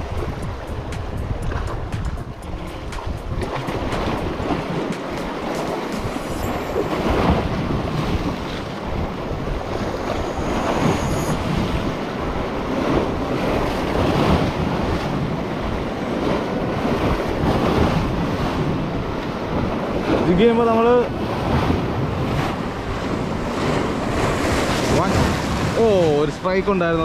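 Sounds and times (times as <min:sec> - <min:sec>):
waves breaking over rocks: 0:00.0 - 0:27.0
wind rumbling on microphone: 0:00.0 - 0:27.0.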